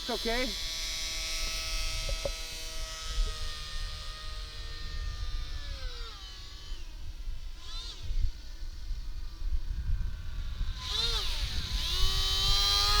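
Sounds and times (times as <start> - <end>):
model plane motor whining: 0.0 - 13.0
wind on microphone: 0.0 - 13.0.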